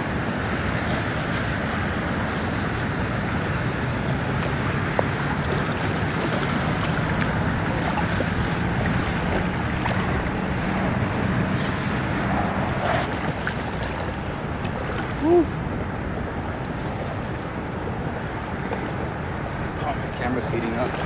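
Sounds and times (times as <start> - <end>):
water lapping: 0.0 - 21.0
wind buffeting microphone: 0.0 - 21.0.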